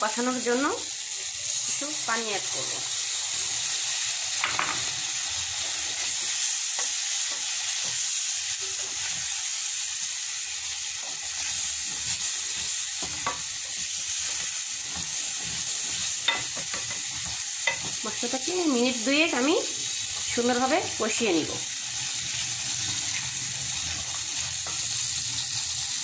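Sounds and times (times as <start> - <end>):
paste sizzling in hot oil: 0.0 - 26.0.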